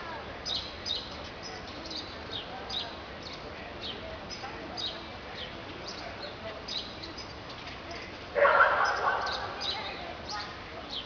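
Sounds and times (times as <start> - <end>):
city background noise: 0.0 - 11.0
small birds chirping: 0.1 - 11.0.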